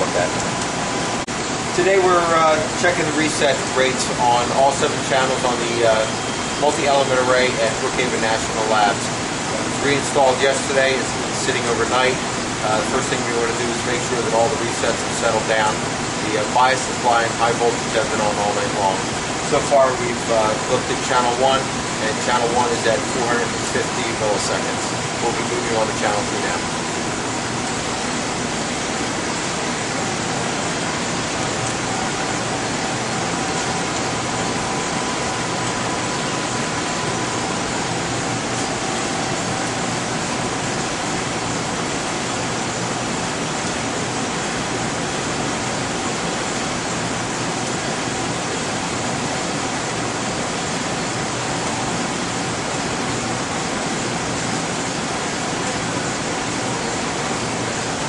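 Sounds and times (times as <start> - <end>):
faint steady hums: 0.0 - 58.0
fans and ventilation rushing: 0.0 - 58.0.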